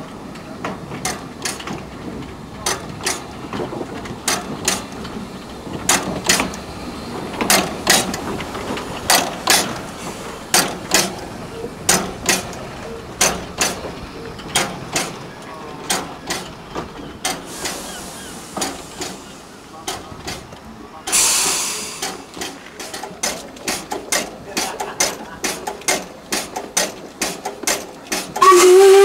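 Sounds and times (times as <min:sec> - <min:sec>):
train rumble: 0:00.0 - 0:29.0
train wheels clicking over rail joints: 0:00.0 - 0:29.0.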